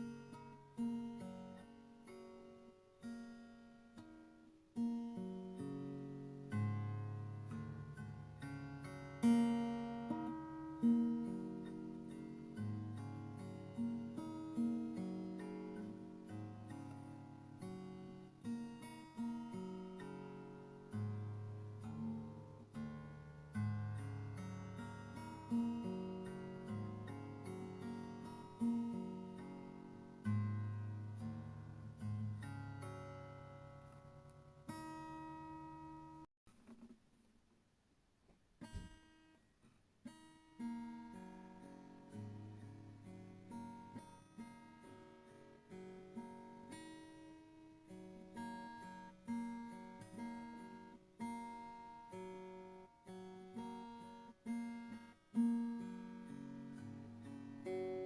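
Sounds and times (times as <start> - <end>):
acoustic guitar plucking: 0.0 - 37.0, 38.6 - 39.4, 40.0 - 58.0.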